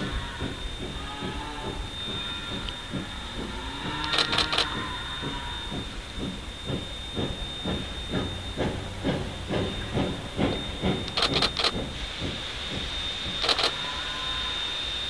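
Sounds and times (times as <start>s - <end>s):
locomotive pulsing steam hiss: 0.0s - 15.0s
sharp steam hisses: 0.0s - 15.0s.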